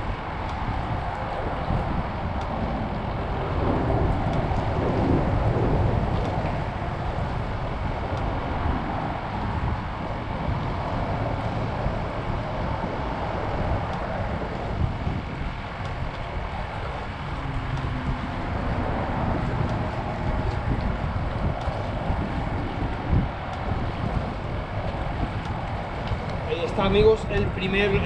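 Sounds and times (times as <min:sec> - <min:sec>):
wind blowing across microphone: 0:00.0 - 0:28.0.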